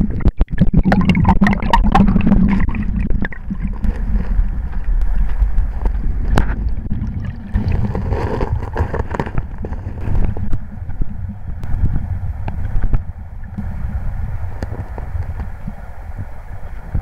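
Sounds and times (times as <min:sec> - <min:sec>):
underwater clicks and knocks: 0:00.0 - 0:13.6
underwater river current rumble: 0:00.0 - 0:17.0.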